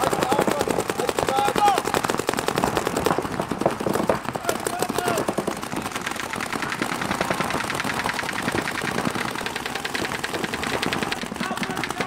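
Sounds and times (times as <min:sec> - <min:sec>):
paintball markers firing: 0:00.0 - 0:12.0.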